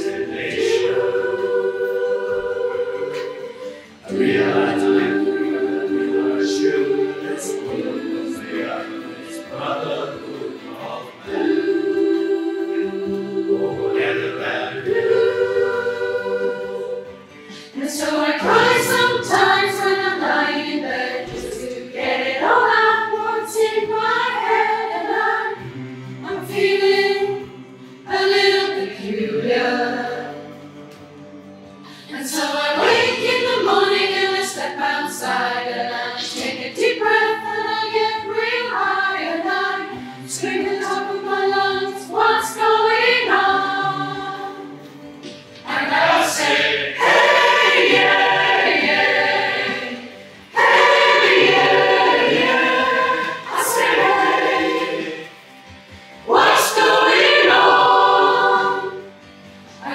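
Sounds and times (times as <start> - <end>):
choir singing: 0.0 - 31.2, 31.8 - 59.9.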